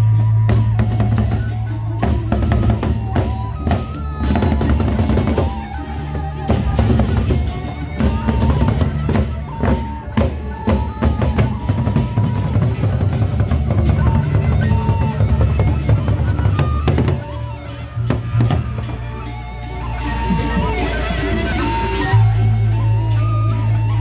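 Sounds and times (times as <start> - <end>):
barrel drums beaten fast: 0.0 - 19.3.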